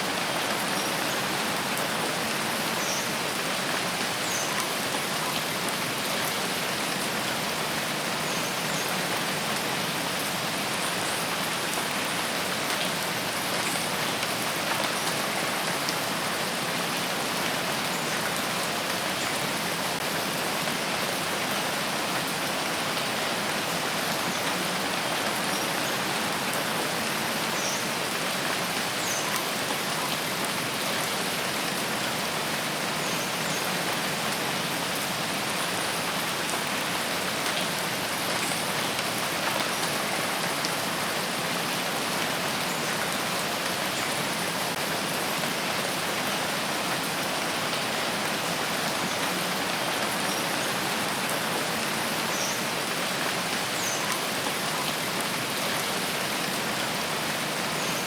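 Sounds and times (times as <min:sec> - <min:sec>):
rain pattering on foliage: 0:00.0 - 0:58.0.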